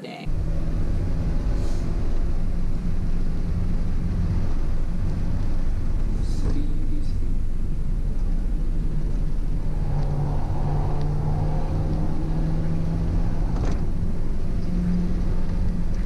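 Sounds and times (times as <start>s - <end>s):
car engine under load: 0.3s - 16.0s
steady low cabin rumble: 0.3s - 16.0s.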